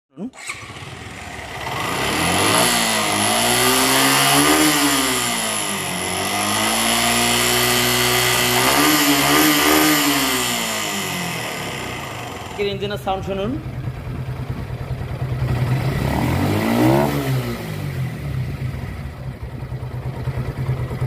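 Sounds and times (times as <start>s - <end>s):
motorcycle engine revving: 0.4s - 21.0s.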